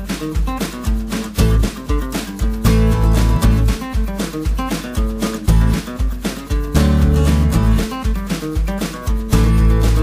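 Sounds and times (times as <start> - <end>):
music with steady bass beat: 0.0 - 10.0.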